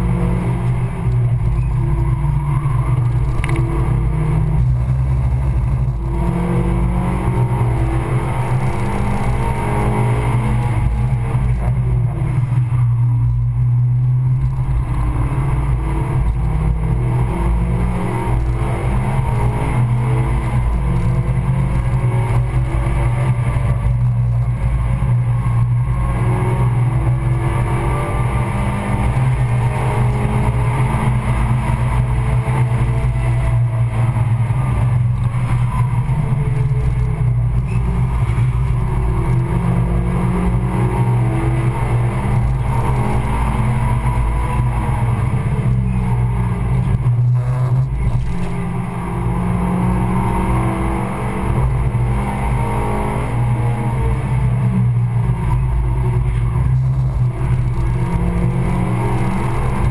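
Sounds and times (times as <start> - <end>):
car engine revving from inside: 0.0 - 59.9.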